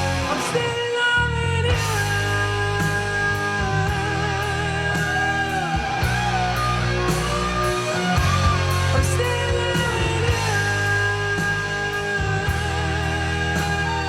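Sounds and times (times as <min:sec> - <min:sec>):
melodic music with heavy bass: 0:00.0 - 0:00.7, 0:01.3 - 0:14.0.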